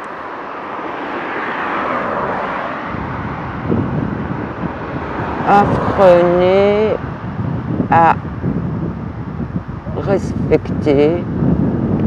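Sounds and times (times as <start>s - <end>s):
vehicle passing: 0.0s - 9.8s
low rumble: 2.2s - 12.0s.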